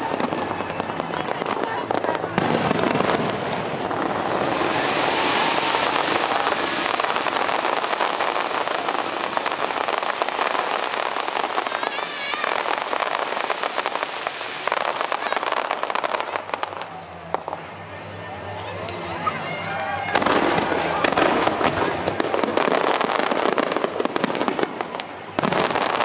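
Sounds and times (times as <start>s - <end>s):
fireworks crackling pops: 0.0s - 17.9s, 18.5s - 26.0s.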